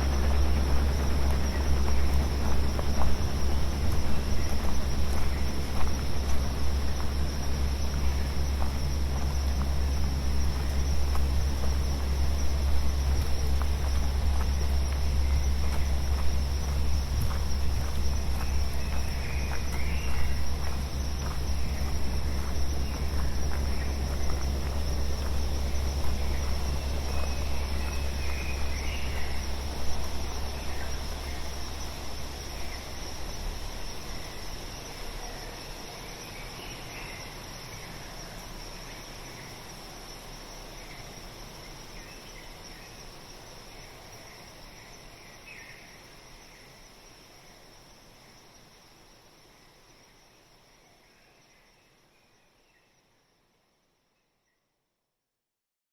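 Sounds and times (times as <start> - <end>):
deep rumble with hiss: 0.0 - 51.9
insects buzzing: 0.0 - 54.6.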